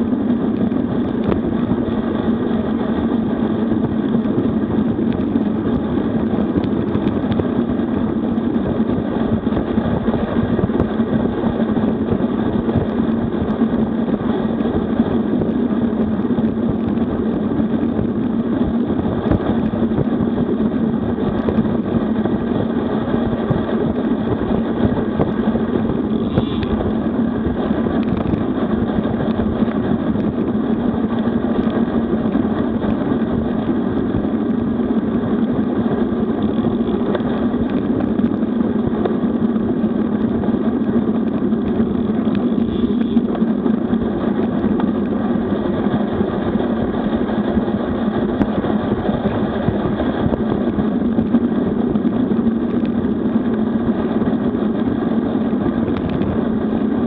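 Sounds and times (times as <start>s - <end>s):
bicycle tyre noise on asphalt: 0.0s - 57.0s
wind rushing over microphone: 0.0s - 57.0s.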